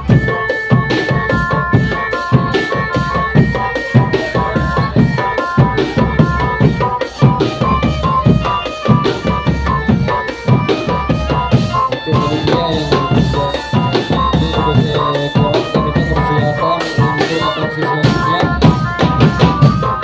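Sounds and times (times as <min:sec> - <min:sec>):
bass and snare drums: 0:00.0 - 0:20.0
melody of short pitched notes: 0:00.0 - 0:20.0.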